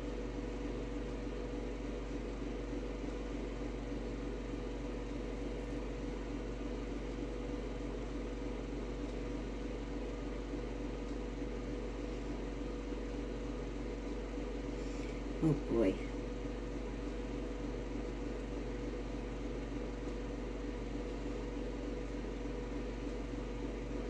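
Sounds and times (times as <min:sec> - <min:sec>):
appliance hum: 0:00.0 - 0:24.0.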